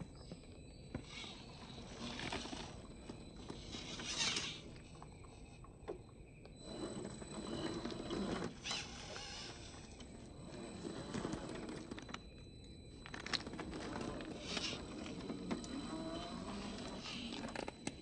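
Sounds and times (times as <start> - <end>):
electric motor and gears whirring: 0.0 - 18.0.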